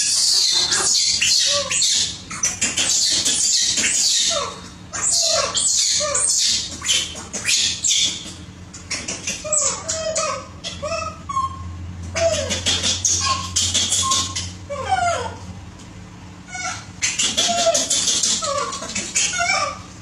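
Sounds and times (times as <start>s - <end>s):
baby monkeys squealing: 0.0s - 15.5s, 16.5s - 20.0s.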